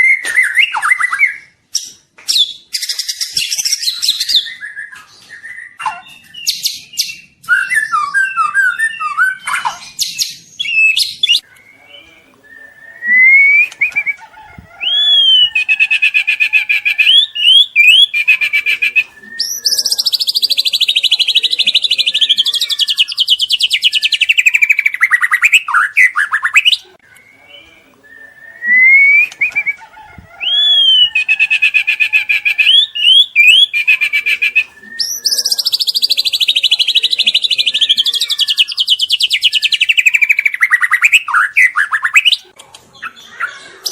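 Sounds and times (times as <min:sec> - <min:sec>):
songbird singing varied phrases: 0:00.0 - 0:42.5.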